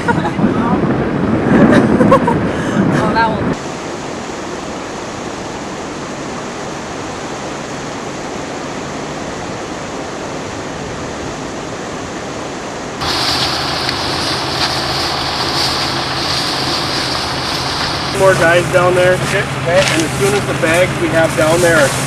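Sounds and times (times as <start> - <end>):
low steady hum: 0.0 - 22.0
floodwater rushing: 3.1 - 22.0.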